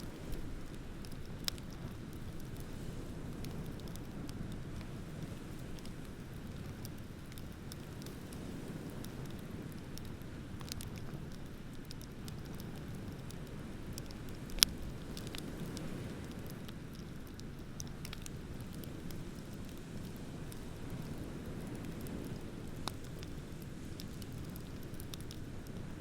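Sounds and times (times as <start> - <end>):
bonfire crackling: 0.0 - 26.0
sharp fire pops: 0.0 - 26.0.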